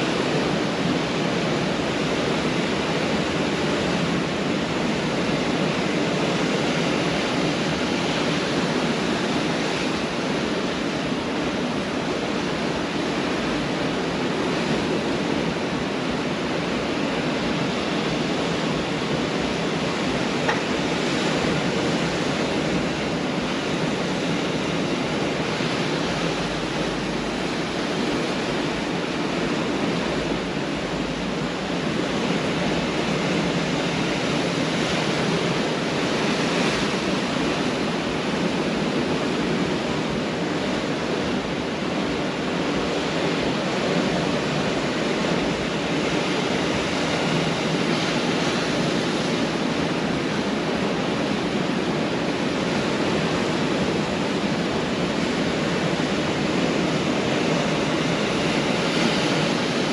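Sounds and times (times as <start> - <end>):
surf washing on a beach: 0.0 - 59.9.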